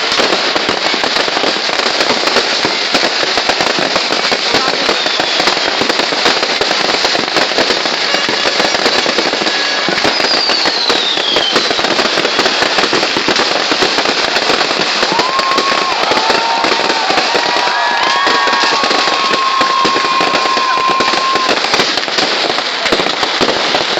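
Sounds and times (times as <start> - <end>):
firework whistling: 0.0 - 23.9
fireworks bangs and crackles: 0.0 - 23.9.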